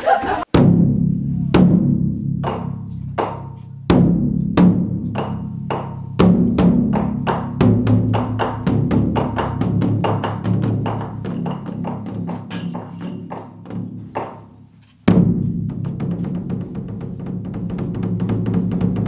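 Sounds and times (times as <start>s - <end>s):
large drum struck with sticks: 0.5s - 19.0s.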